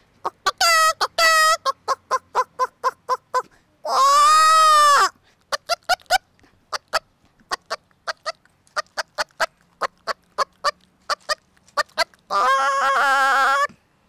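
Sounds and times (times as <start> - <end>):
woman imitating hen clucks: 0.2 - 13.8.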